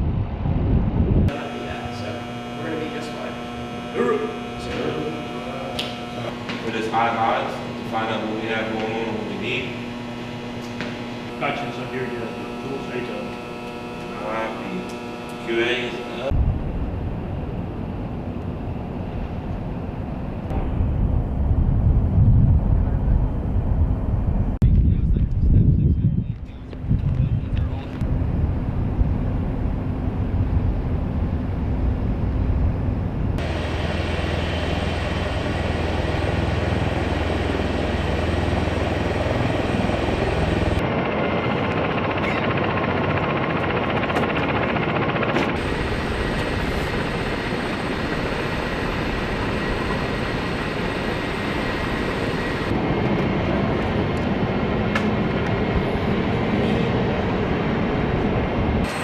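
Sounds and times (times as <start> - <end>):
helicopter running: 0.0 - 59.0.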